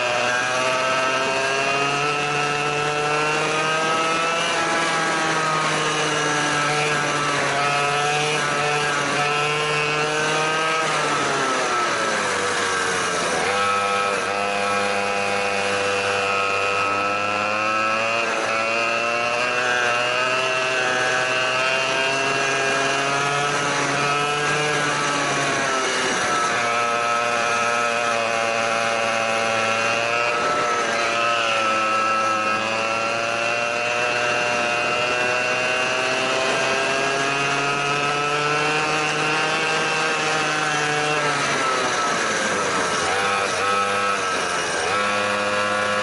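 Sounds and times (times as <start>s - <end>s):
go-kart engine running hard: 0.0s - 46.0s.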